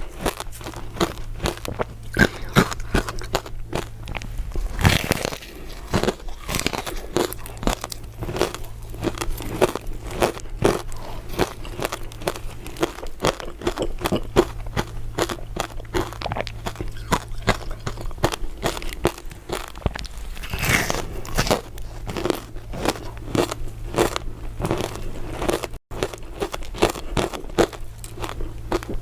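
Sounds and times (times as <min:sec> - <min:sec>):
person crunching ice dessert: 0:00.0 - 0:29.0.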